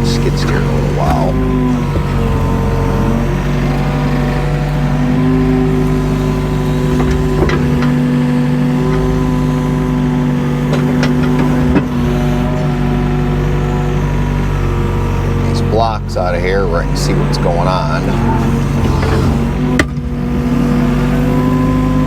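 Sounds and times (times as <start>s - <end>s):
excavator engine drone: 0.0s - 22.0s.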